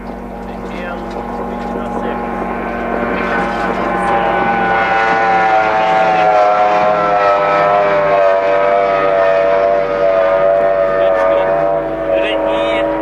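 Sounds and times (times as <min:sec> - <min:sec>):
powerboat engine roaring past: 0:00.0 - 0:13.0.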